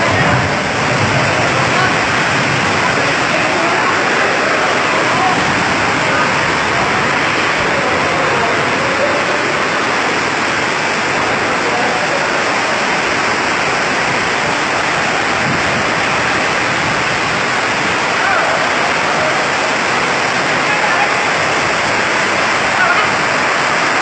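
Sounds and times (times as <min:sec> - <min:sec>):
strong storm wind: 0:00.0 - 0:24.0.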